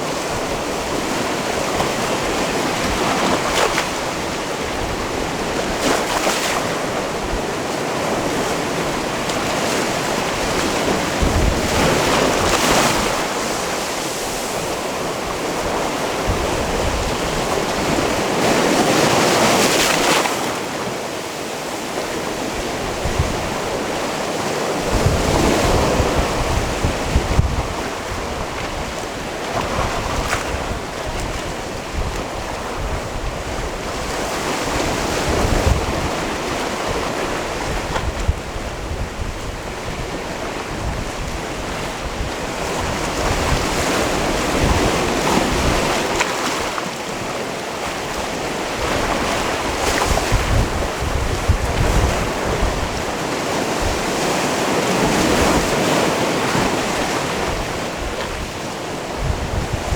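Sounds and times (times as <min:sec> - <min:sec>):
wind buffeting microphone: 0:00.0 - 0:20.2, 0:21.9 - 0:59.9
waves washing onto rocky shore: 0:00.0 - 0:59.9.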